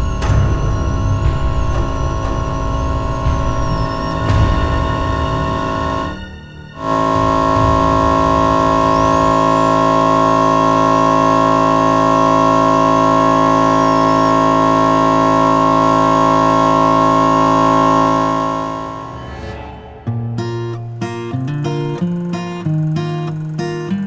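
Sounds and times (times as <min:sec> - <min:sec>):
air compressor running: 0:00.0 - 0:19.2, 0:20.8 - 0:24.0
faint wavering whistle: 0:00.0 - 0:21.2.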